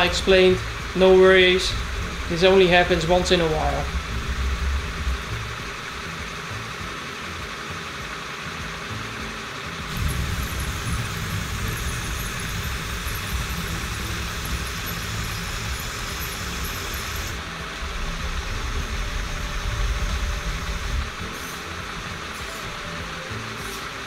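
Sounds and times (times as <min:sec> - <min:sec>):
low rumble: 0:00.0 - 0:06.9, 0:09.9 - 0:22.4
electric motor whir: 0:00.0 - 0:24.0.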